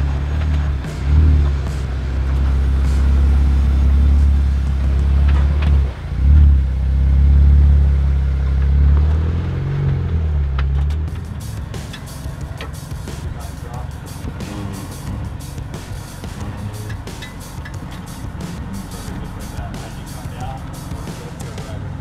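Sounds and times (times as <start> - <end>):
car engine under throttle: 0.0 - 22.0.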